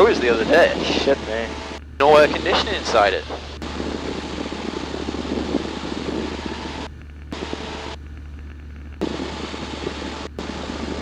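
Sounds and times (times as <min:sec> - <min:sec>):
aircraft engine and propeller drone: 0:00.0 - 0:11.0.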